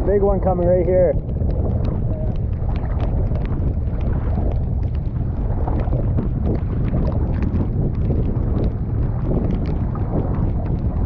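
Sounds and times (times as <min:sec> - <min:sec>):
waves slapping against canoe hull: 0:00.0 - 0:11.0
wind buffeting microphone: 0:00.0 - 0:11.0.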